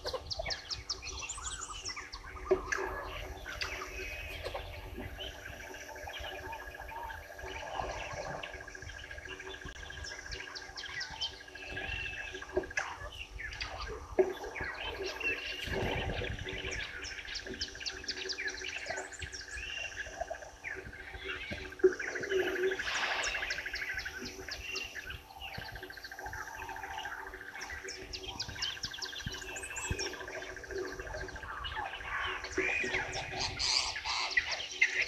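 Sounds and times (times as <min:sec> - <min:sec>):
birds chirping and trilling: 0:00.0 - 0:35.0
rapid pulsing bird trill: 0:00.0 - 0:35.0.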